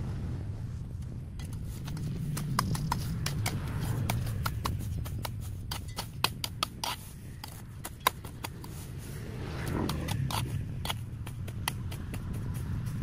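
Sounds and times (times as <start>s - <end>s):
hand tools snipping vegetation: 1.4s - 13.0s.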